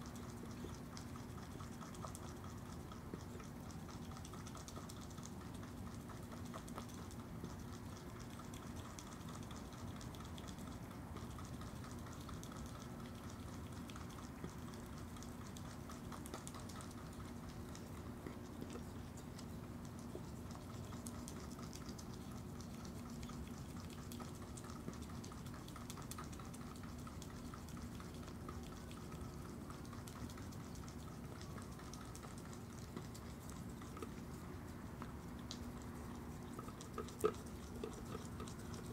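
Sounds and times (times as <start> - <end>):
animal chewing and licking: 0.0 - 38.9.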